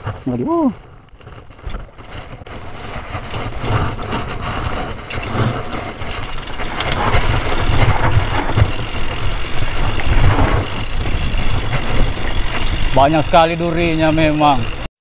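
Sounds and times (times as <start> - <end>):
bike rattling: 0.0 - 14.9
bike tyres rolling over dirt: 0.0 - 14.9.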